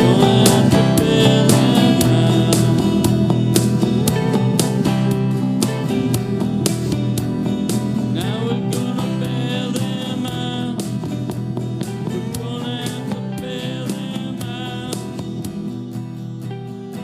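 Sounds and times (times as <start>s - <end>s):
country band music: 0.0s - 17.0s.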